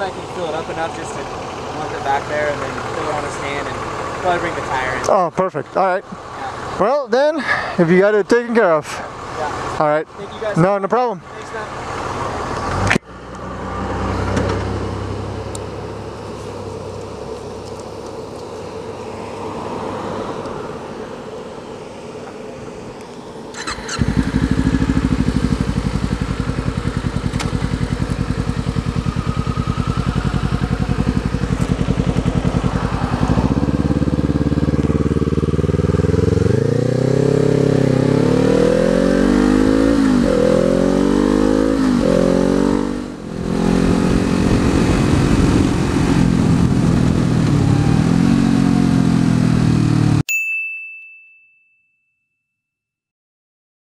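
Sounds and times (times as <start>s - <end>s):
motorcycle engine accelerating: 0.0s - 7.0s, 8.0s - 19.5s, 23.5s - 50.2s.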